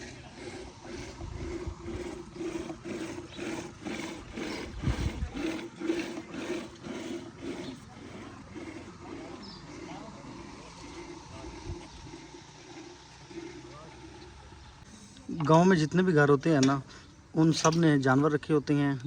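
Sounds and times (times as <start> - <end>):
rhythmic sloshing of churning: 0.0 - 17.6.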